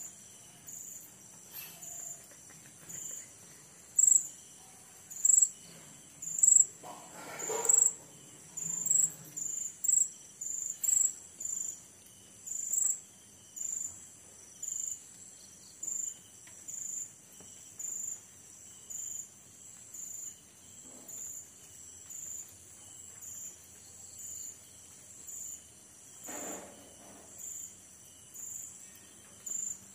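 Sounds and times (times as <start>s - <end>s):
cricket chirping: 0.0s - 29.9s
faint high insect drone: 0.0s - 29.9s.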